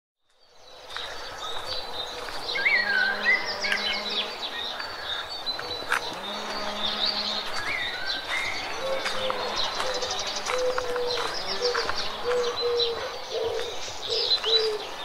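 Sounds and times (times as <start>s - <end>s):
songbirds chirping: 0.2s - 15.0s
high insect drone: 0.8s - 15.0s.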